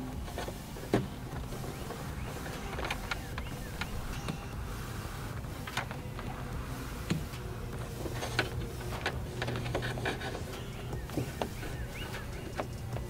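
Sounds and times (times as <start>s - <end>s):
cable clicks and rustles: 0.0s - 13.0s
low steady hum: 0.0s - 13.0s.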